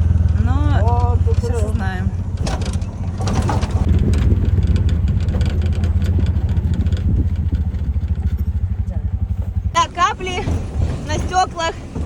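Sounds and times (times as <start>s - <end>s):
vehicle engine humming: 0.0s - 12.0s
rattling: 0.8s - 12.0s.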